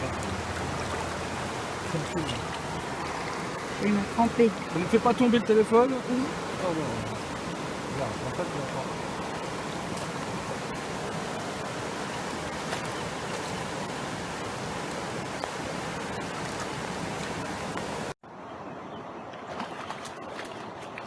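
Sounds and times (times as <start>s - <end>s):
quiet running water: 0.0s - 18.2s
stream cascade rushing: 0.0s - 18.2s.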